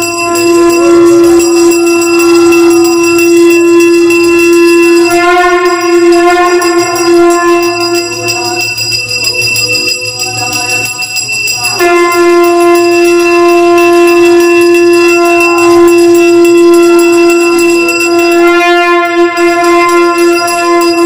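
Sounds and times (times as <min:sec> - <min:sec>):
conch shell blasts: 0:00.0 - 0:09.9, 0:11.4 - 0:21.0.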